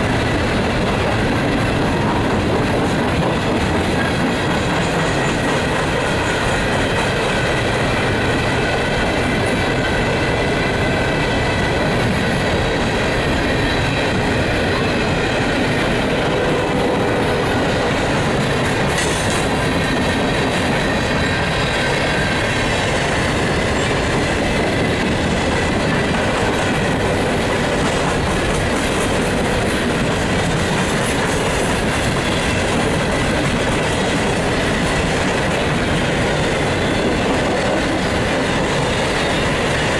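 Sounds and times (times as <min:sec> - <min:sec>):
train wheels clattering over rails: 0:00.0 - 0:39.9.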